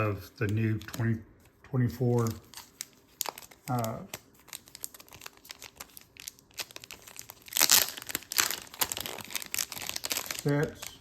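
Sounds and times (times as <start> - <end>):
plastic packaging crinkling: 0.0 - 1.2, 2.0 - 11.0.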